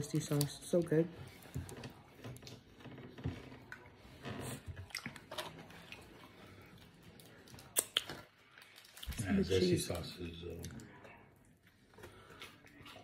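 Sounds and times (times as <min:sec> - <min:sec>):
person chewing food: 0:01.3 - 0:09.2, 0:10.5 - 0:13.0.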